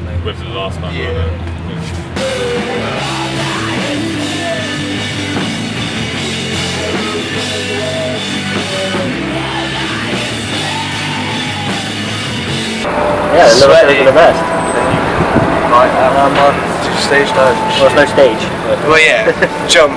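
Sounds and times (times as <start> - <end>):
rock band playing: 2.1 - 19.9.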